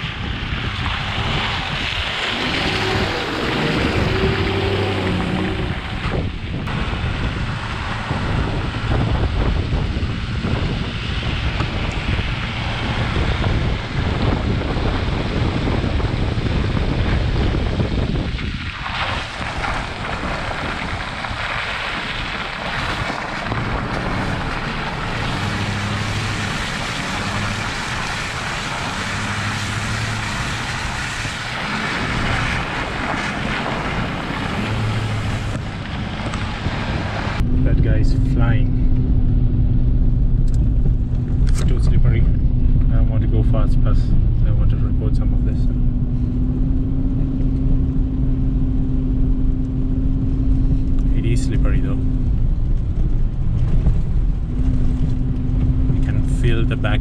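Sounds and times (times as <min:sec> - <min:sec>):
low engine hum: 0:00.0 - 0:57.0
tire and road noise: 0:00.0 - 0:57.0
wind rushing over microphone: 0:00.0 - 0:57.0.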